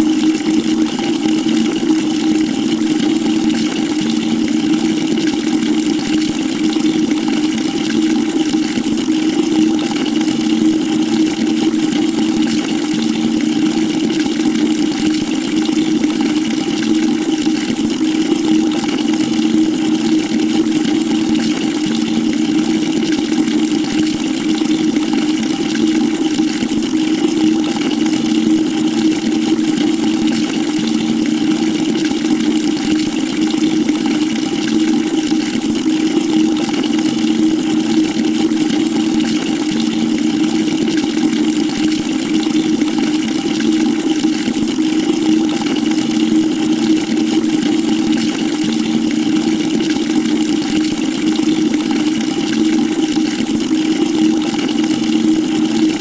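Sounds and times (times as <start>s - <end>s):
water pouring into bucket: 0.0s - 56.0s.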